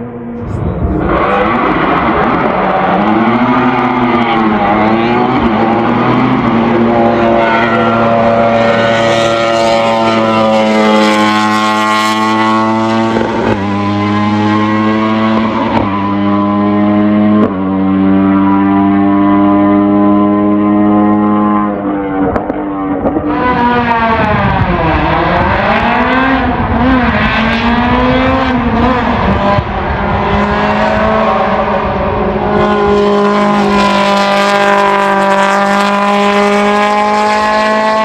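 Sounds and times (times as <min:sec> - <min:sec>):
racing engine accelerating: 0:00.0 - 0:38.0.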